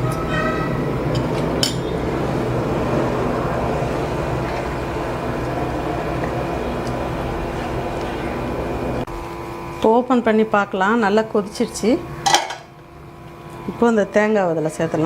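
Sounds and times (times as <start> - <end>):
covered pot boiling: 0.7 - 15.0.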